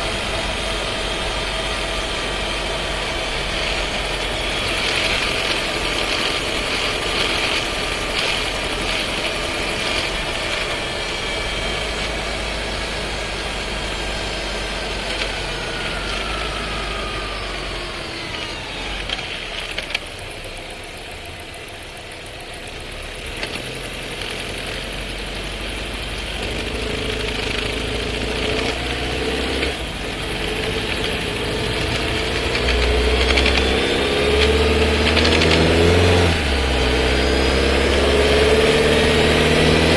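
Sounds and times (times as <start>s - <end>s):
car engine slowing: 0.0s - 39.9s
car rattle and vibration: 0.0s - 39.9s.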